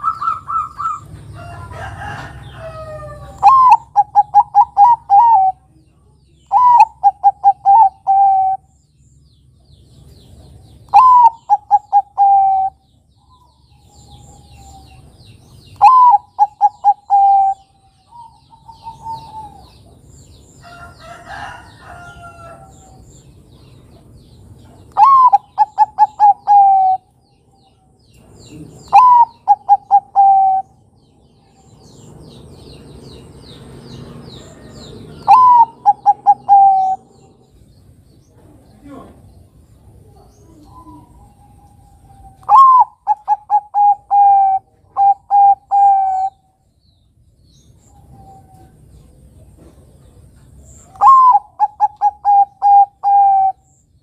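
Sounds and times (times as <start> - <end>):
dove cooing song: 0.0 - 5.8, 6.4 - 8.8, 10.1 - 23.0, 23.9 - 37.7, 38.3 - 46.7, 47.8 - 54.0.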